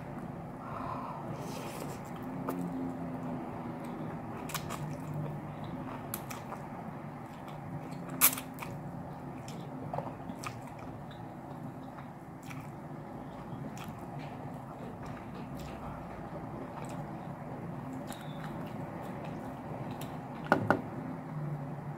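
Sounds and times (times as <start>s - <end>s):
low steady hum: 0.0s - 21.9s
person chewing food: 1.4s - 20.3s.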